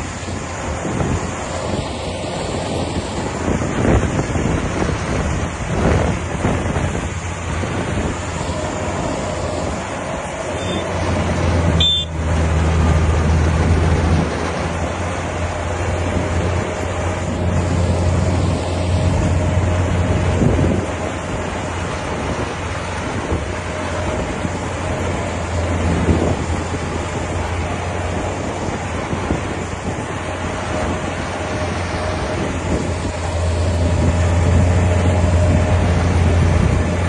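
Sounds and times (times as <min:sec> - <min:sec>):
combine harvester diesel engine: 0:00.0 - 0:37.0
deep steady hum: 0:06.7 - 0:37.0.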